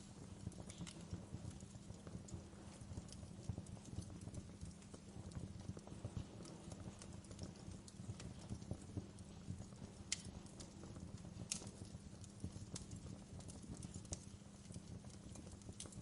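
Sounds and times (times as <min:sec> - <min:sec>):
low rumble of burning: 0:00.0 - 0:16.0
wood fire snapping and popping: 0:00.0 - 0:16.0.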